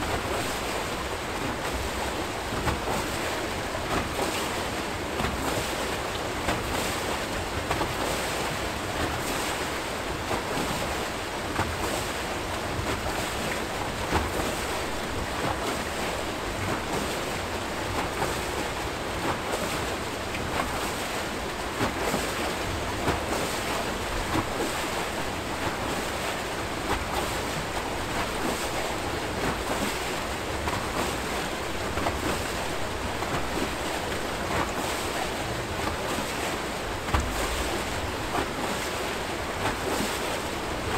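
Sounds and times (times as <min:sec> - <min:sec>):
water rushing and churning: 0:00.0 - 0:40.9
water splashes: 0:00.0 - 0:40.9.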